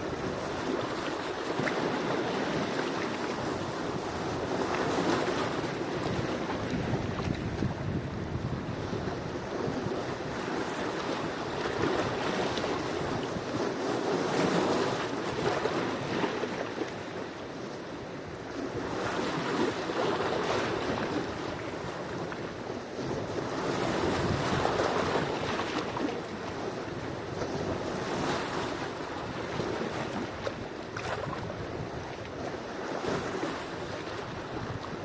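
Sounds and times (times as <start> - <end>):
sea waves breaking on shore: 0.0 - 35.0.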